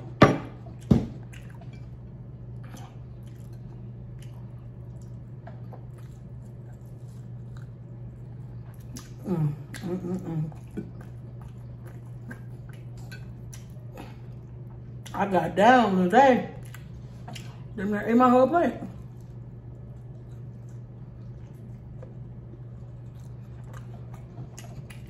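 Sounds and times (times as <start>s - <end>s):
person chewing food: 0.6s - 15.2s, 16.6s - 17.8s, 18.9s - 25.0s.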